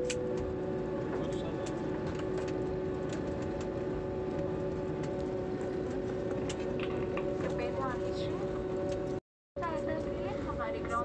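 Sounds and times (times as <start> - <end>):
airliner engine hum: 0.0 - 11.0.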